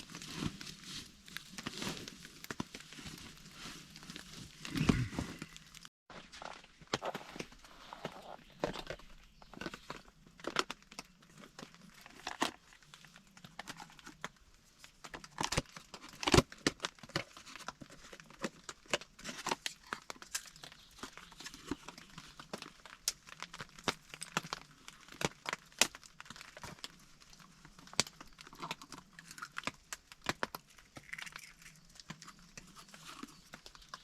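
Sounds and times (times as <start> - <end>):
crackling and rustling: 0.0 - 34.0.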